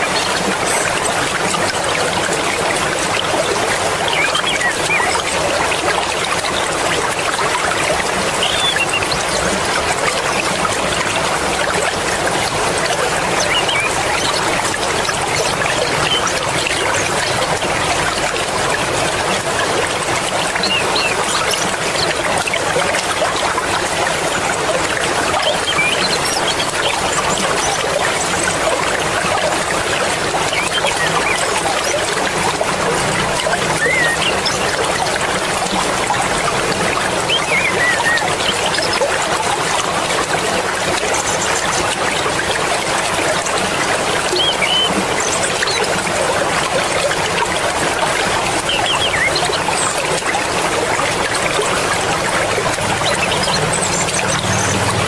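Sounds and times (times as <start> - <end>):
river water rushing: 0.0 - 55.0
water splashes and plinks: 0.0 - 55.0.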